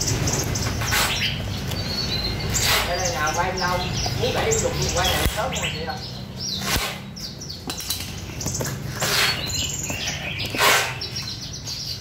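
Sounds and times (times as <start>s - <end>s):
high falling bird chirps: 0.0s - 12.0s.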